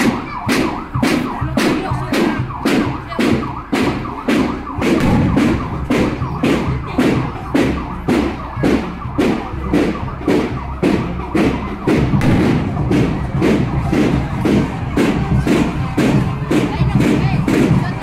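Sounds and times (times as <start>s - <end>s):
drums beating march rhythm: 0.0s - 18.0s.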